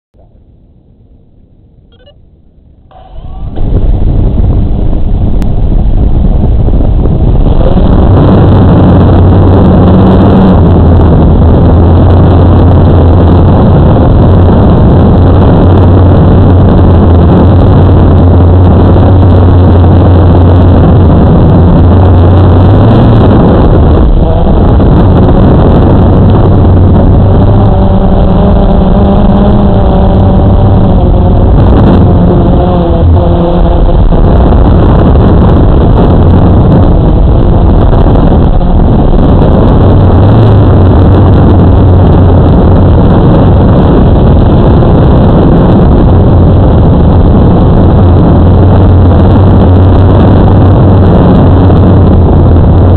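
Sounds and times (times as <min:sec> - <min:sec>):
drone motors and propellers: 0:00.2 - 0:52.9.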